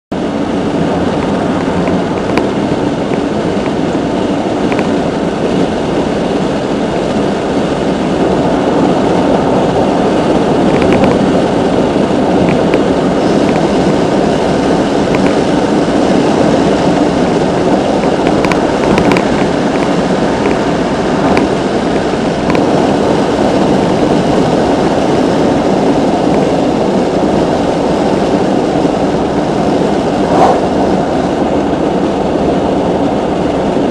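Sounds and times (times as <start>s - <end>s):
road and tyre noise in car: 0.1s - 33.9s.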